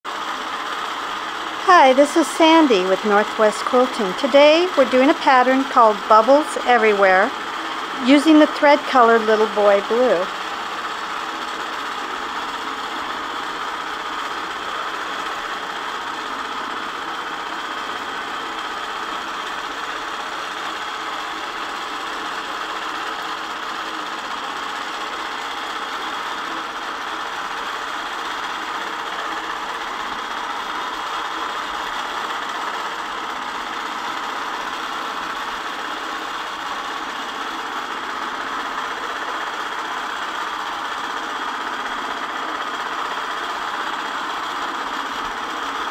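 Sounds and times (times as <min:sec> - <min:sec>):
quilting machine stitching: 0:00.1 - 0:45.9.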